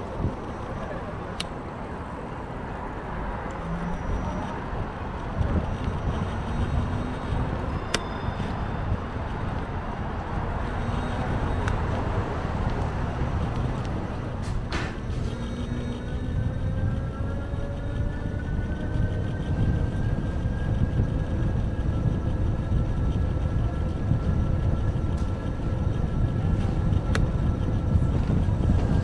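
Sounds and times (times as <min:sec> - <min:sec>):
road and traffic rumble: 0:00.0 - 0:29.0.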